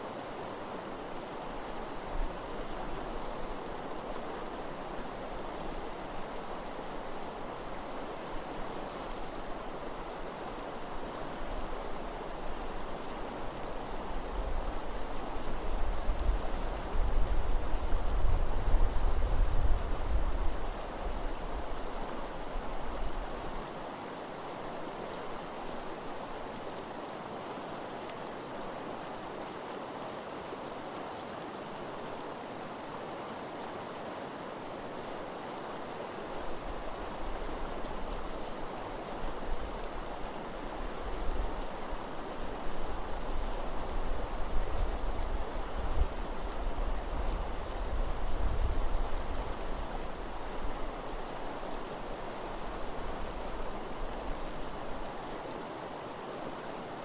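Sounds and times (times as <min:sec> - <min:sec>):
river water rushing over gravel: 0:00.0 - 0:57.0.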